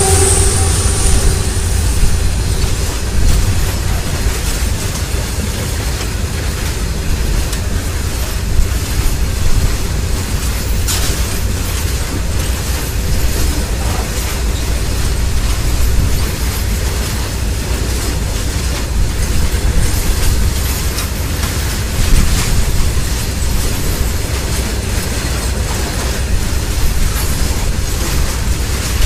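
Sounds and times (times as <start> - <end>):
freight wagons clanking: 0.0 - 29.0
train wheels rumbling on rails: 0.0 - 29.0.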